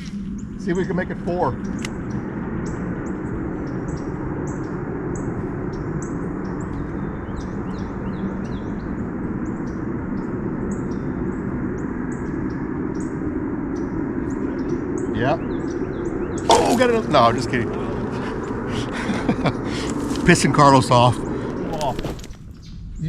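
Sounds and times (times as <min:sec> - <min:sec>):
steady rushing noise: 0:00.0 - 0:22.5
small birds chirping: 0:00.0 - 0:23.0.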